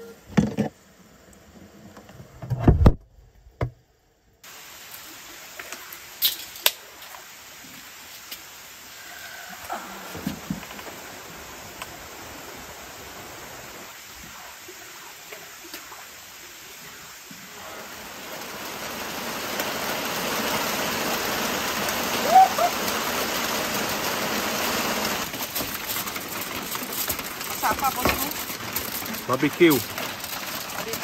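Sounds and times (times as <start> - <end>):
steady rain: 0.0 - 3.0, 3.6 - 31.0.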